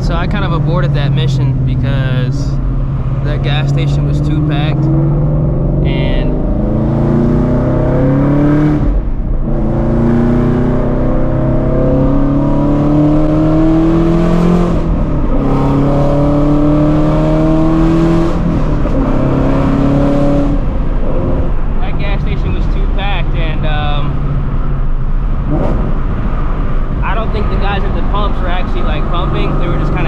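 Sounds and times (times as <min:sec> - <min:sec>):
car engine accelerating through gears: 0:00.0 - 0:30.0.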